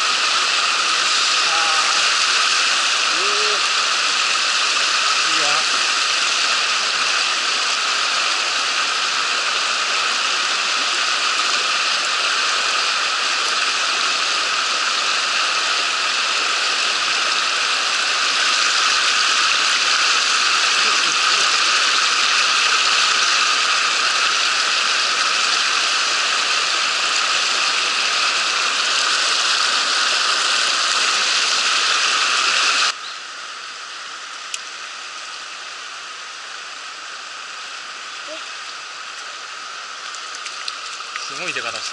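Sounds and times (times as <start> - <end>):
mountain stream water rushing: 0.0 - 41.9.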